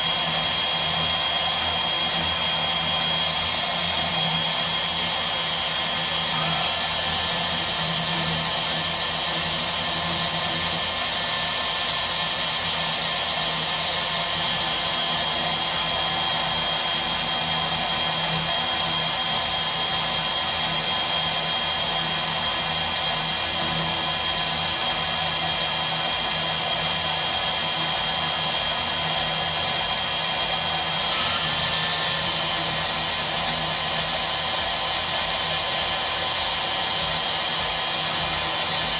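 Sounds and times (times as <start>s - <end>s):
bandsaw motor whining: 0.0s - 38.9s.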